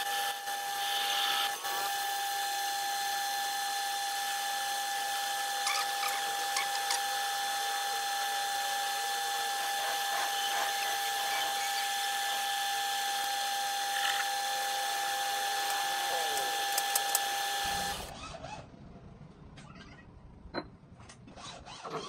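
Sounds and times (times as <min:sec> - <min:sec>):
metal lathe whining: 0:00.0 - 0:18.1.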